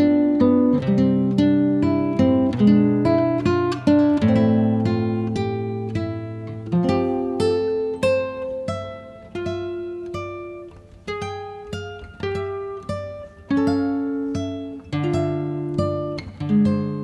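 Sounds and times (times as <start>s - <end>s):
plucked acoustic guitar: 0.0s - 17.0s.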